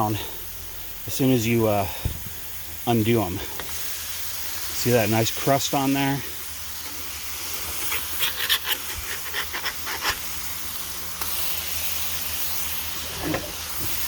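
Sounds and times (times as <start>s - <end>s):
burger patties sizzling on griddle: 0.0s - 14.0s.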